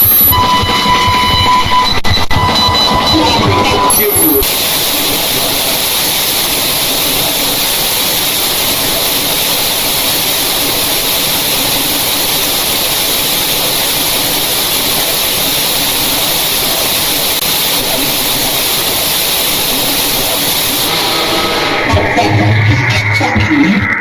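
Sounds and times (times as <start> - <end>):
loud harsh static hiss: 0.0 - 1.2, 2.0 - 24.0.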